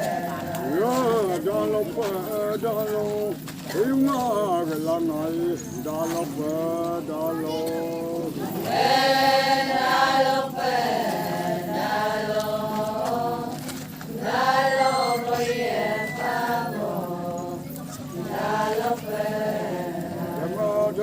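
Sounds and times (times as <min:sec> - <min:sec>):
voices chanting a song: 0:00.0 - 0:03.1, 0:03.7 - 0:21.0.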